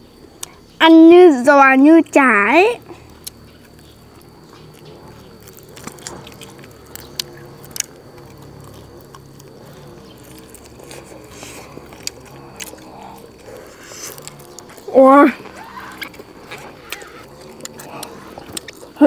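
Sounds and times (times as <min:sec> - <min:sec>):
chewing crisp sausages: 0:02.9 - 0:19.0
crunchy clicks: 0:03.0 - 0:19.0.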